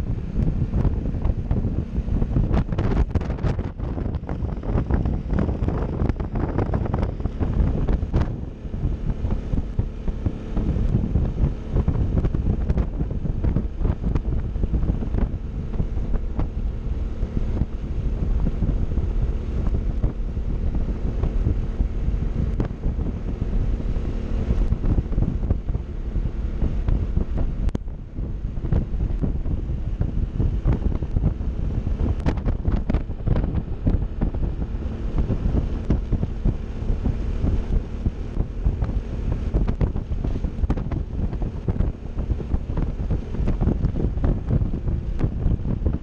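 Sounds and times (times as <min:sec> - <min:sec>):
scooter engine humming: 0:00.0 - 0:46.0
wind buffeting microphone: 0:00.0 - 0:46.0.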